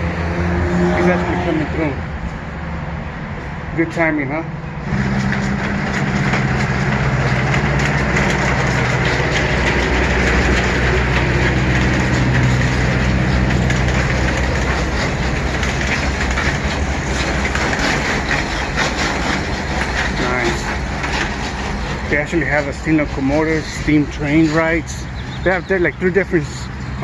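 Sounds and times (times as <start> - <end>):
small train engine humming: 0.0 - 27.0
wheels clicking over rail joints: 0.0 - 27.0.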